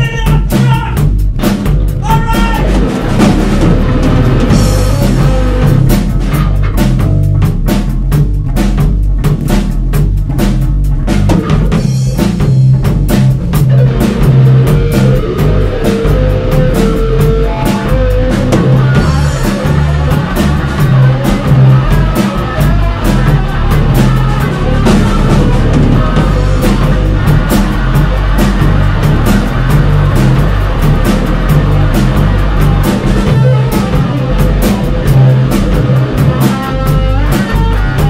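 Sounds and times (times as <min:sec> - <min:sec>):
bass guitar: 0:00.0 - 0:38.0
driving drum beat: 0:00.0 - 0:38.0
electric guitar lead: 0:01.7 - 0:08.7, 0:11.0 - 0:38.0.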